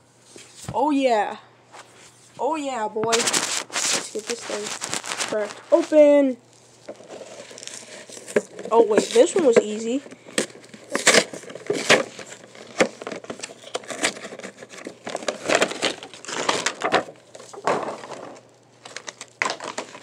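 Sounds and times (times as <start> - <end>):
plastic packaging crackling: 3.1 - 20.0.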